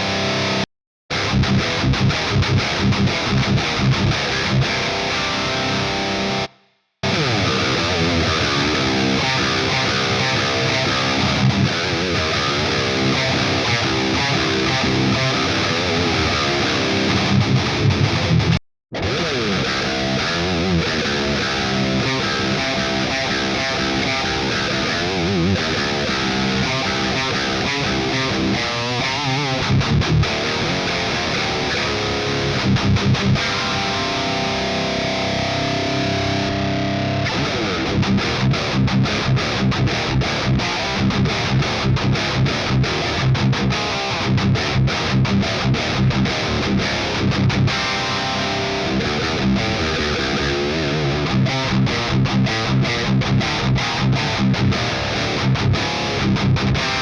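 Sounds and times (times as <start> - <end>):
distorted electric guitar riffs: 0.0 - 57.0.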